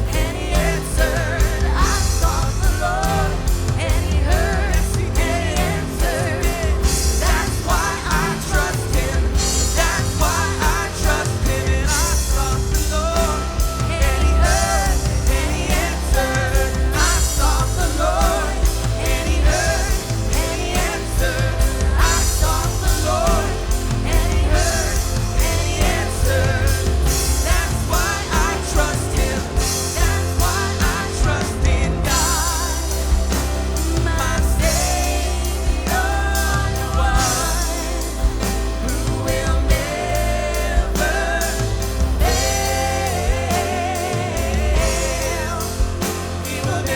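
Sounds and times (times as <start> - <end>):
bass guitar: 0.0 - 46.9
drums with cymbals: 0.0 - 46.9
guitar: 0.0 - 46.9
piano: 0.0 - 46.9
synth: 0.0 - 46.9.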